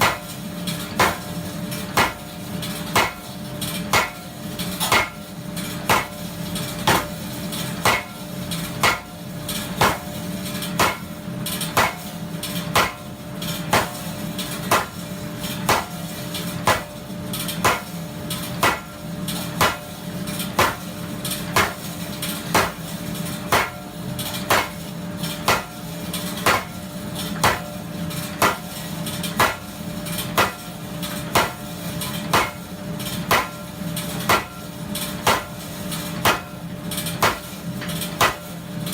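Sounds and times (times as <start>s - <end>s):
power hammer striking hot steel: 0.0s - 9.2s, 9.8s - 17.0s, 17.6s - 38.6s.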